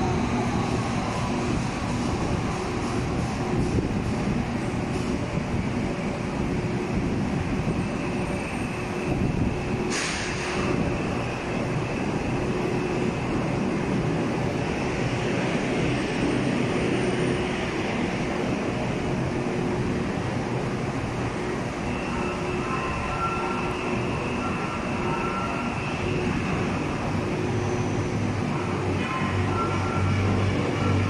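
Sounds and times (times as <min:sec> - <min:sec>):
train mechanical running noise: 0:00.0 - 0:31.0.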